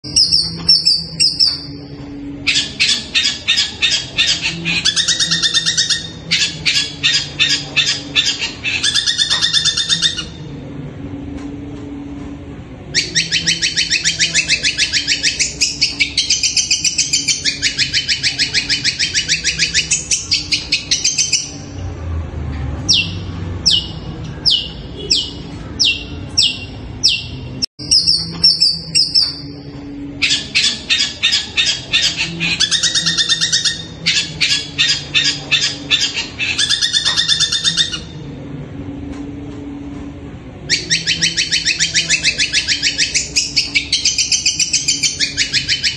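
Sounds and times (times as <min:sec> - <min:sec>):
shrike chattering song: 0:00.0 - 0:10.6, 0:12.8 - 0:21.9, 0:22.8 - 0:38.3, 0:40.6 - 0:45.9.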